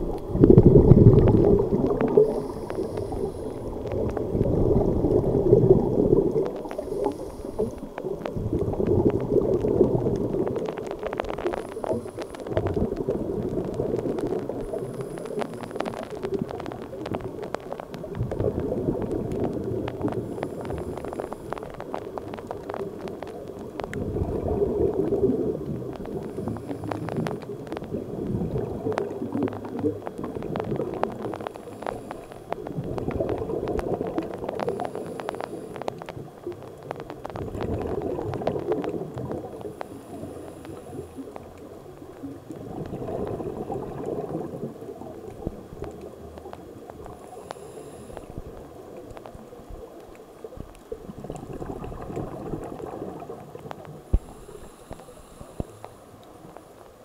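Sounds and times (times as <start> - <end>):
regulator bubbles gurgling underwater: 0.0 - 57.0.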